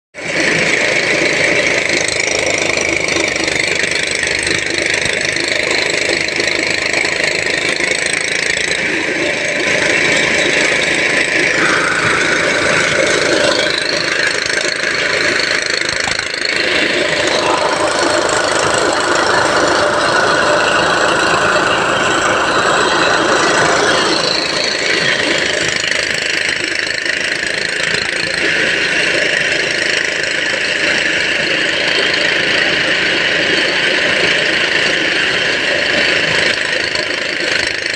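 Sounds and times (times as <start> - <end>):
diesel engine under heavy load: 0.1 - 37.9
high whine: 0.2 - 37.9.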